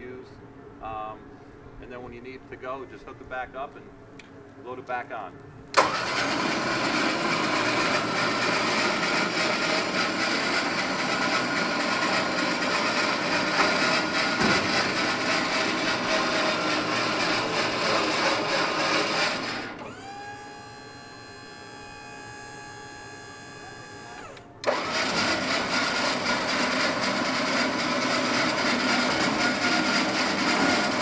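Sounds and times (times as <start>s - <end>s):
hydraulic pump running: 5.7s - 31.0s.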